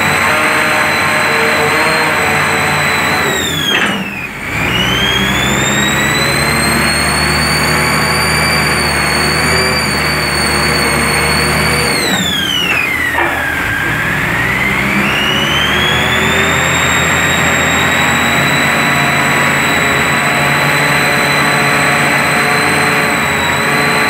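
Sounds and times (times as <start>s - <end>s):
hydraulic power unit whining: 0.0s - 24.0s.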